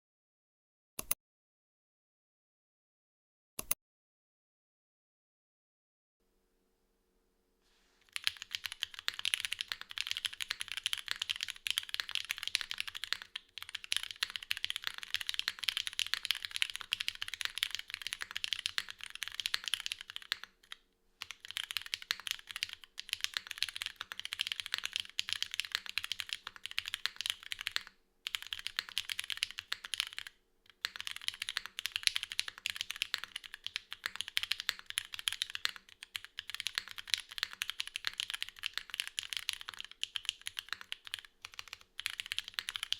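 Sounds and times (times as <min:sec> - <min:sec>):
mechanical keyboard typing: 0:08.1 - 0:42.9.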